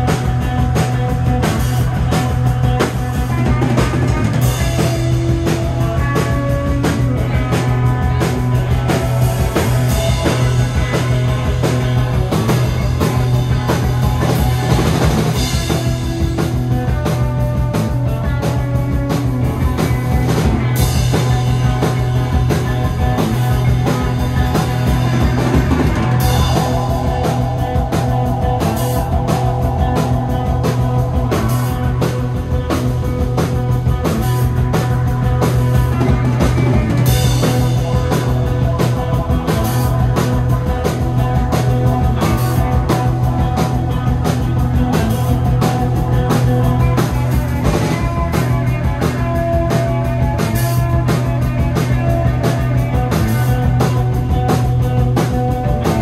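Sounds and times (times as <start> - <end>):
bass guitar: 0.0 - 56.0
drum kit beat: 0.0 - 56.0
electric guitar: 0.0 - 56.0
keyboards: 0.0 - 56.0.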